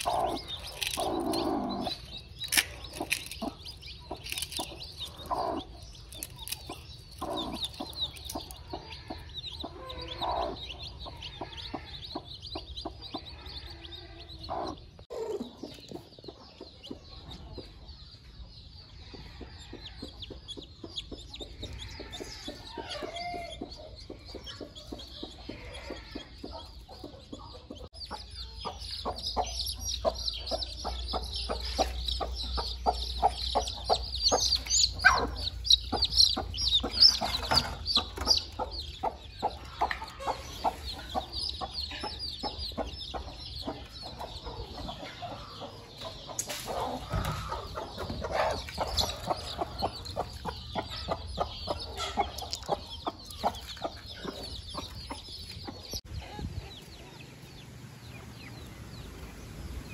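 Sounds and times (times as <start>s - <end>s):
hen clucking: 0.0s - 17.7s, 19.1s - 57.0s
chicks peeping: 0.0s - 59.9s.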